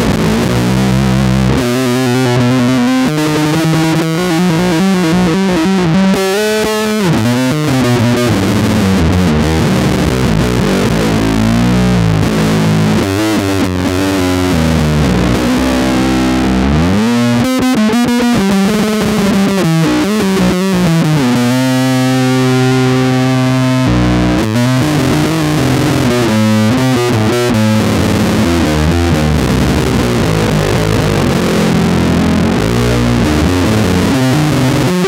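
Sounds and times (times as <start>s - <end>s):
electric bass metal riff: 0.0s - 35.0s.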